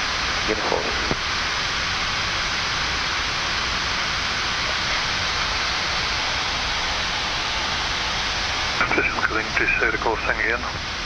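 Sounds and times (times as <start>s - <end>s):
air-conditioning airflow hiss: 0.0s - 11.0s.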